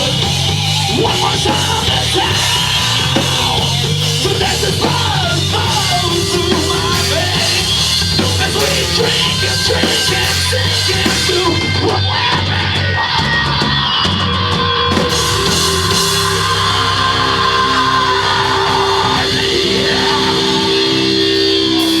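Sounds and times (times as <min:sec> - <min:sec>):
heavy rock band playing: 0:00.0 - 0:22.0.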